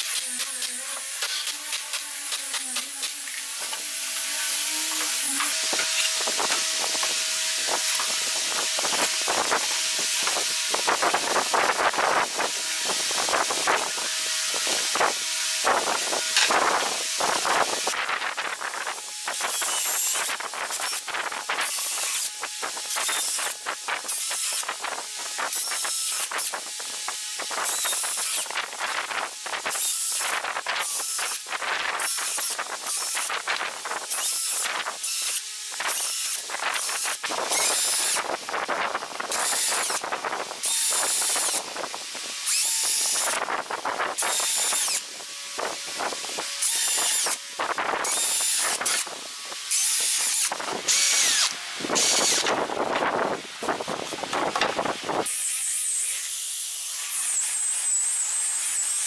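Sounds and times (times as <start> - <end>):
cordless drill boring wood: 0.0 - 59.0.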